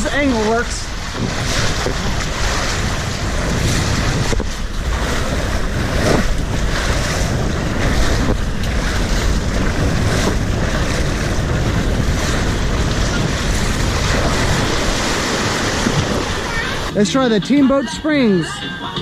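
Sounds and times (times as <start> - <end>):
wind buffeting microphone: 0.0 - 17.0
water rushing and splashing: 0.0 - 18.4.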